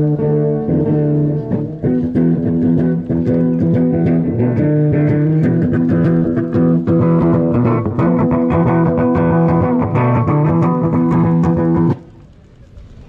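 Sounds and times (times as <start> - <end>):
guitar music: 0.0 - 12.0
sustained low bass notes: 0.0 - 12.0.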